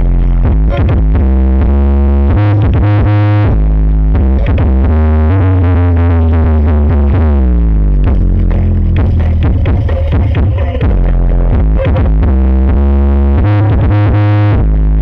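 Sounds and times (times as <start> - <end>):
electronic music with heavy bass: 0.0 - 15.0.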